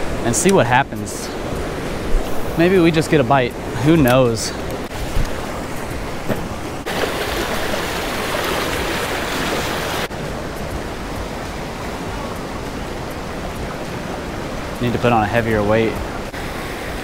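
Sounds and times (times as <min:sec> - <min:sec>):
creek water rushing over rapids: 0:00.0 - 0:17.0.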